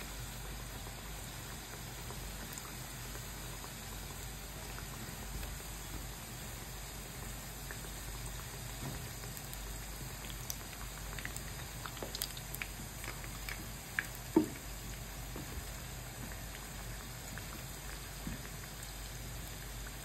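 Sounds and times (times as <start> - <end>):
food sizzling in hot oil: 0.0 - 20.0
oil crackles and pops: 0.8 - 20.0.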